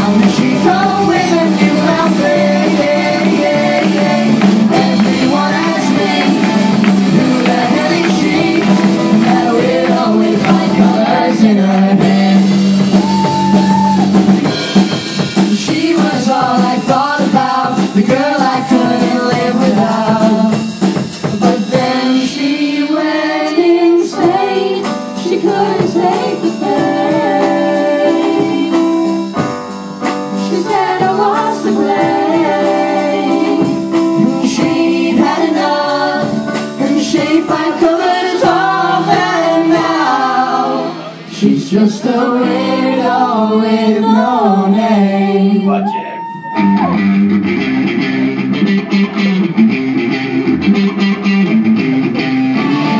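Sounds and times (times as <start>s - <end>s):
drum kit beat: 0.0s - 23.4s, 24.0s - 43.0s
people singing: 0.0s - 29.3s, 30.3s - 46.1s.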